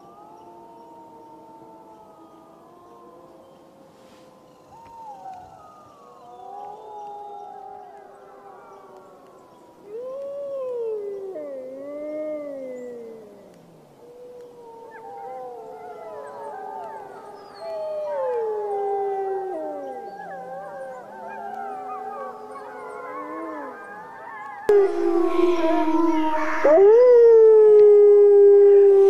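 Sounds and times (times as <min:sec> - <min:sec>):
wolves howling: 0:00.0 - 0:29.0.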